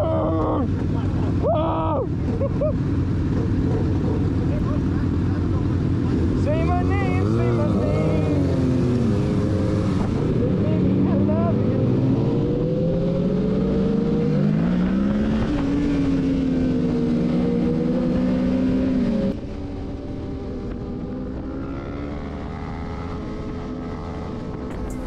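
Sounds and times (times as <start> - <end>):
motorcycle engine running: 2.1 - 13.4, 14.3 - 25.0.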